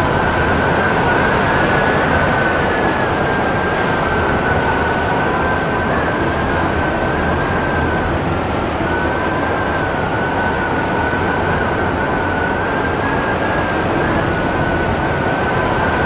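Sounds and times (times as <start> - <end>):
strong wind whistling: 0.0 - 16.0.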